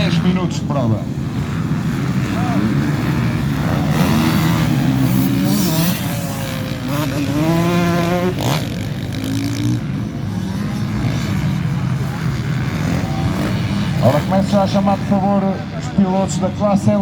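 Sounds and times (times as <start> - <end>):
motocross bikes revving: 0.0 - 17.0
engine climbing in pitch: 1.6 - 16.0.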